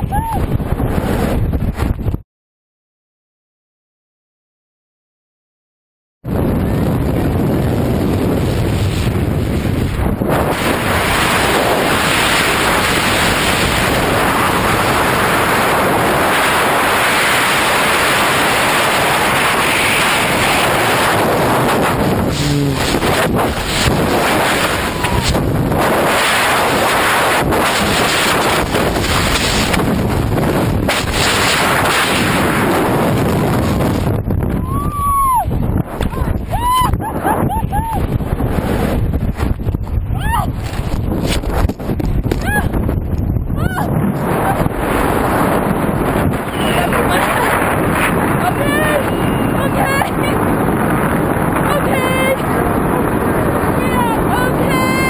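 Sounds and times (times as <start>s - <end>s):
wind buffeting microphone: 0.0s - 2.2s, 6.2s - 55.0s.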